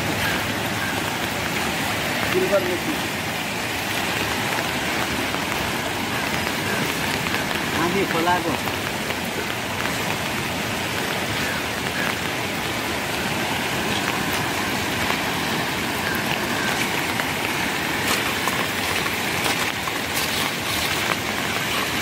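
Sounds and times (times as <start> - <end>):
rain falling: 0.0 - 22.0
river rushing in flood: 0.0 - 22.0.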